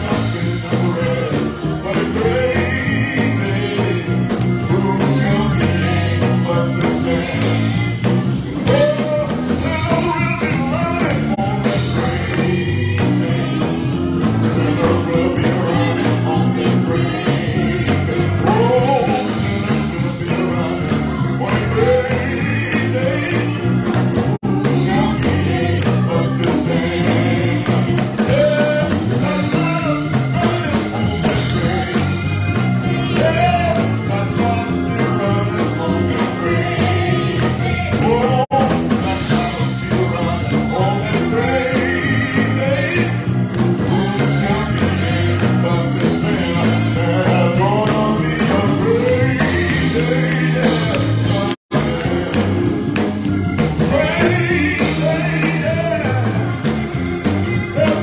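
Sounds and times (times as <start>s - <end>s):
gospel singing with accompaniment: 0.0s - 58.0s.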